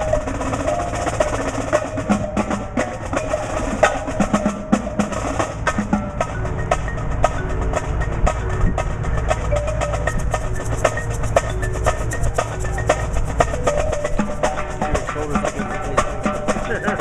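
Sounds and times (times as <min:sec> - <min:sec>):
marching snare and bass drums: 0:00.0 - 0:17.0.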